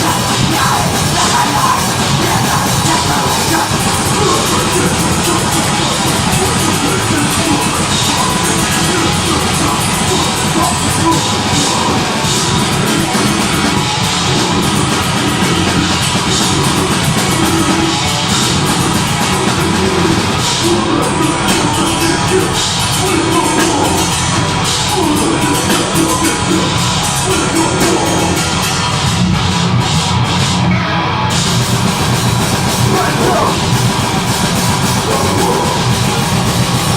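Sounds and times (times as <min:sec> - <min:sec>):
fast drumming: 0:00.0 - 0:30.6, 0:31.3 - 0:36.9
distorted guitars and bass: 0:00.0 - 0:36.9
yelled vocals: 0:00.0 - 0:36.9.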